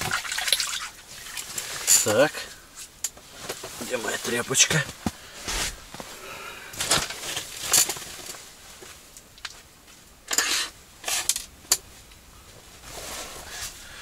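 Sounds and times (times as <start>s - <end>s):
rustling of cloth and gear: 1.1s - 14.0s.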